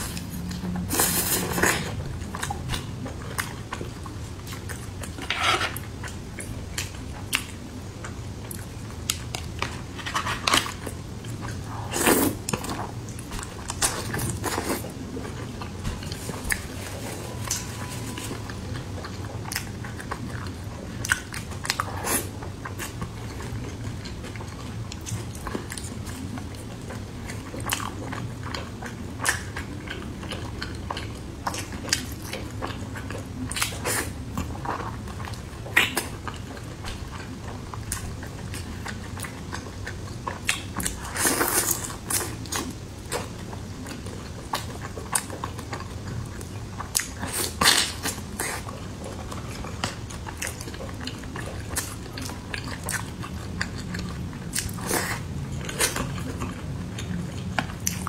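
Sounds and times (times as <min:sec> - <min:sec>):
person chewing with mouth smacks: 0:06.0 - 0:58.0.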